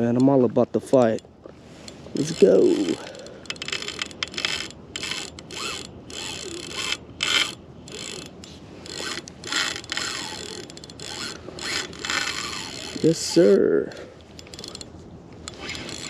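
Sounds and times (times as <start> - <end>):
fishing reel ratcheting: 1.8 - 16.0.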